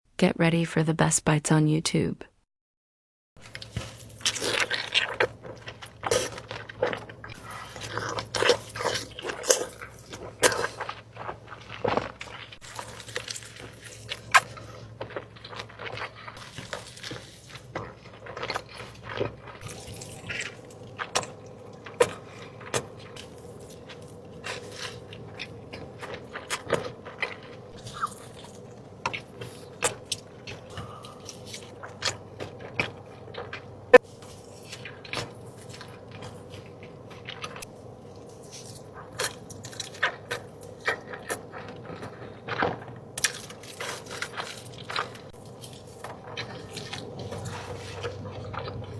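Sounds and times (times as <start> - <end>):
faint steady hum: 3.4 - 48.9
wet chewing and mouth sounds: 3.4 - 48.9.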